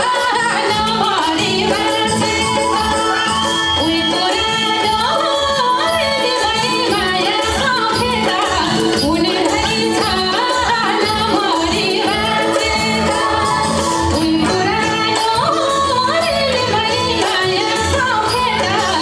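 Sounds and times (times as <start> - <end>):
instrumental backing with beat: 0.0 - 19.0
woman singing folk song: 0.0 - 19.0.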